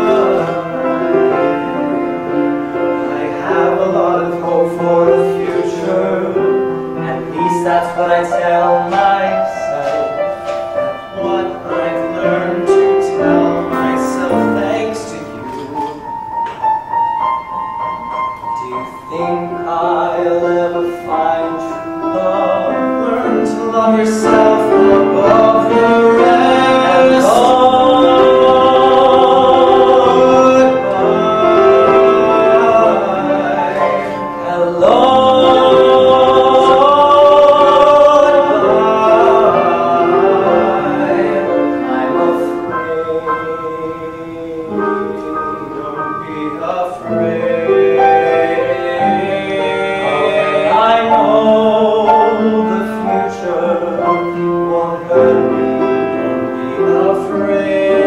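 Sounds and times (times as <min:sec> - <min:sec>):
person singing: 0:00.0 - 0:16.2, 0:18.0 - 0:58.0
instrumental accompaniment: 0:00.0 - 0:58.0.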